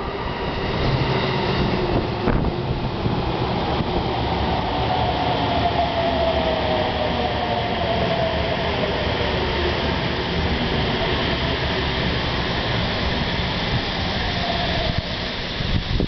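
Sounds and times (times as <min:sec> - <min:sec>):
train wheel and rail noise: 0:00.0 - 0:16.0.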